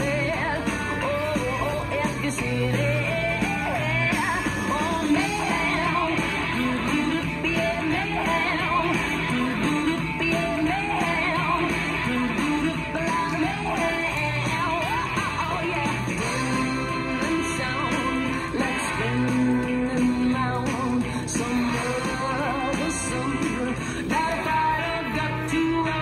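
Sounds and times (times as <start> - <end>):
rock and roll song with singer: 0.0 - 26.0.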